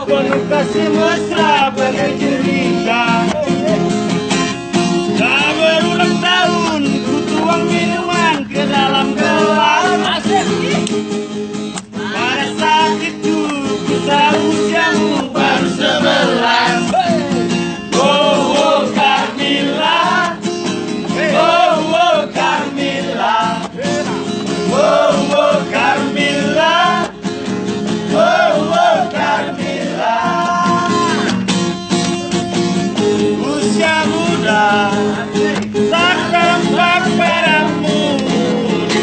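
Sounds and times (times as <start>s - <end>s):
man singing with vibrato: 0.0s - 4.1s, 5.0s - 10.8s, 12.0s - 20.4s, 21.1s - 27.1s, 28.1s - 31.3s, 33.2s - 39.0s
acoustic guitar strumming: 0.0s - 39.0s.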